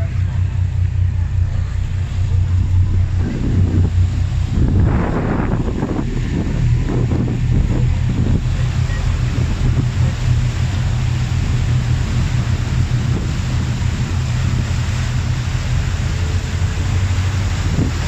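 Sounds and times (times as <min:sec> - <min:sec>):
ferry engines droning: 0:00.0 - 0:18.0
propeller wash hissing: 0:00.0 - 0:18.0
wind buffeting microphone: 0:00.0 - 0:18.0.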